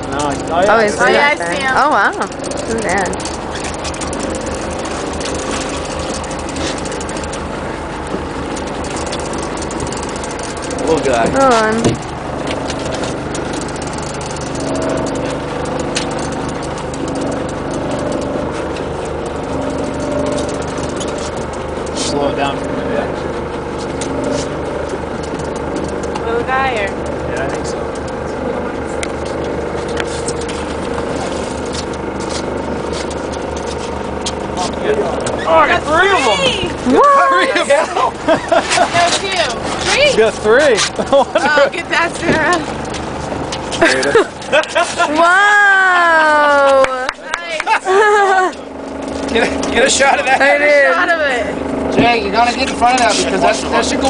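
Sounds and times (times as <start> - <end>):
boat engine rumbling: 0.0 - 54.0.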